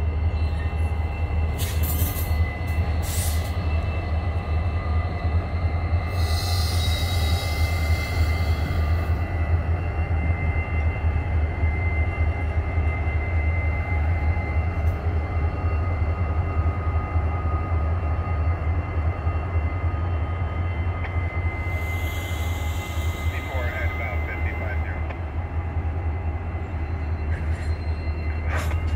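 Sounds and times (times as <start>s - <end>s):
diesel locomotive engine drone: 0.0s - 28.9s.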